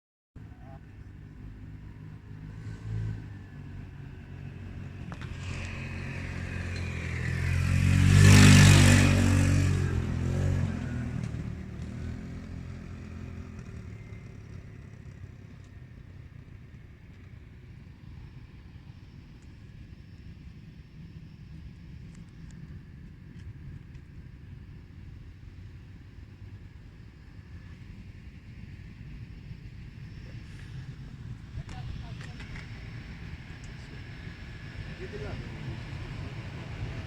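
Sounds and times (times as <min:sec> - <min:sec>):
jet airliner passing: 0:00.5 - 0:37.0.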